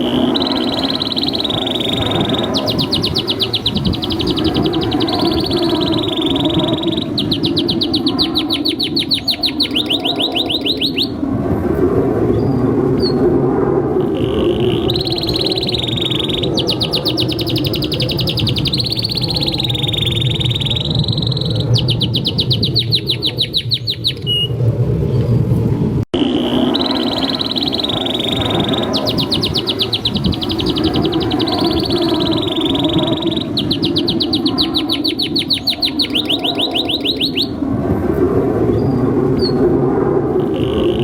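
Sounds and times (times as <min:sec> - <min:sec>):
canary singing trills: 0:00.0 - 0:11.2, 0:14.1 - 0:24.6, 0:26.2 - 0:37.6.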